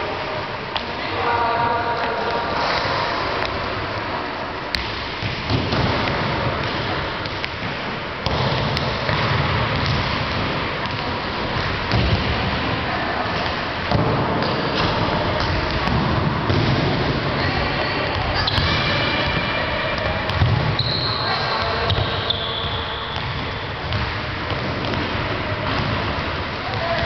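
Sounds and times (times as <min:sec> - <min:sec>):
echoing din in large hall: 0:00.0 - 0:27.0.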